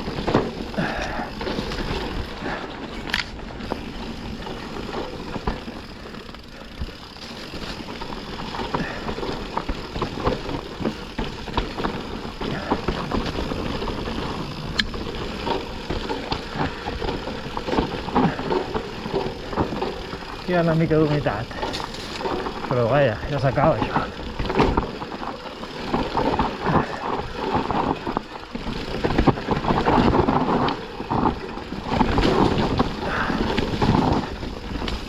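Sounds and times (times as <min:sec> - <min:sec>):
bike knocking and rattling: 0:00.0 - 0:35.0
bike tyres over dirt and stones: 0:00.0 - 0:35.0.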